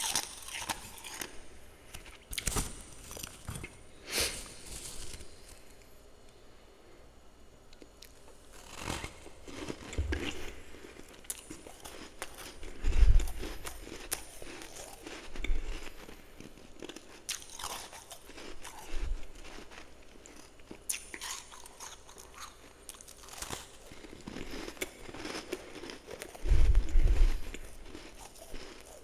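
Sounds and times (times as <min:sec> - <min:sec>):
chewing and crunching frost: 0:00.0 - 0:05.9, 0:07.8 - 0:29.0.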